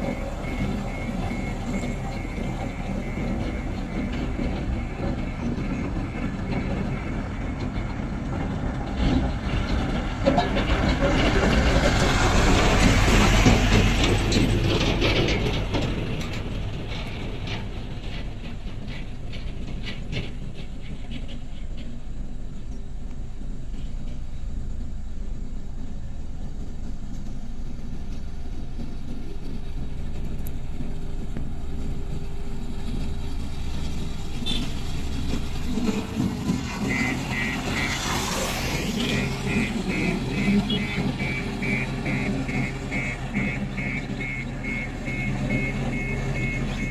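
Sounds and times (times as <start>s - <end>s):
diesel machine rattling clatter: 0.0s - 46.9s.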